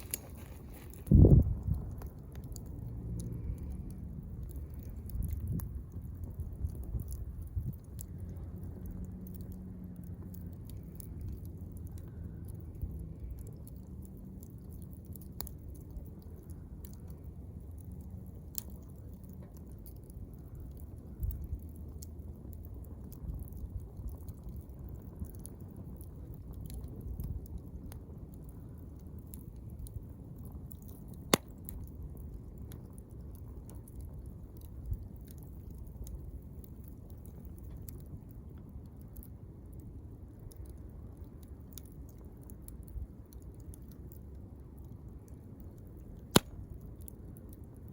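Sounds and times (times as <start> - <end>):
campfire crackling and popping: 0.0 - 47.9
fire low rumble: 0.0 - 47.9.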